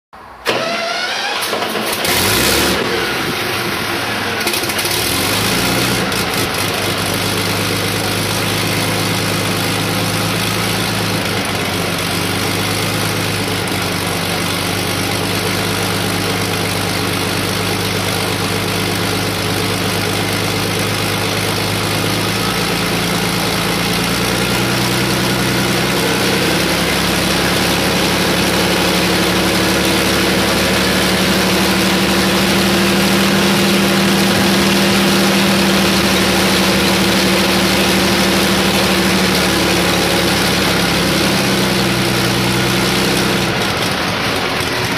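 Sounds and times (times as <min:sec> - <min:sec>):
aero engine running: 0:00.2 - 0:44.9.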